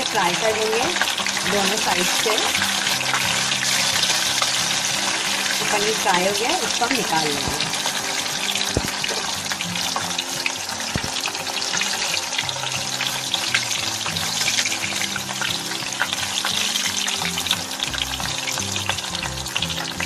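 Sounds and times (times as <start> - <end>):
cheese sizzling in hot oil: 0.0 - 20.0.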